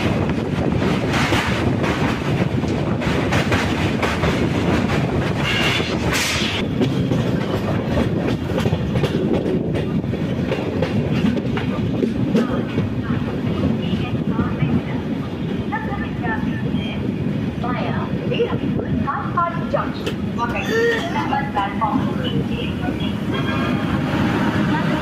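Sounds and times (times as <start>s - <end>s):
train coaches rumbling: 0.0s - 25.0s.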